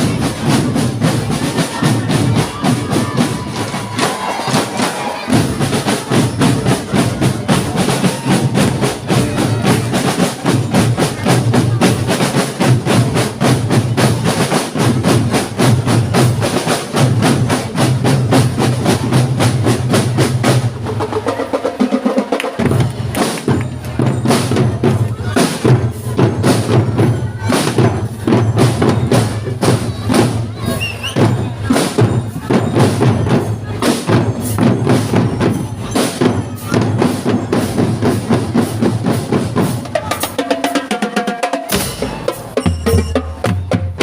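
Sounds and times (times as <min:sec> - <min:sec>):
marching drum band: 0:00.0 - 0:44.0.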